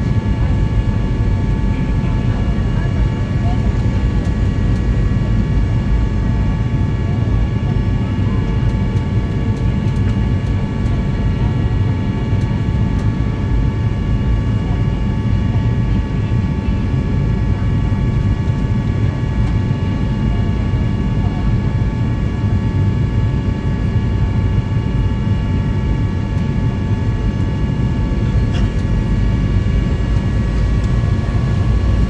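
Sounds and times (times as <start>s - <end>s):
low rumble of engines and airflow: 0.0s - 32.0s.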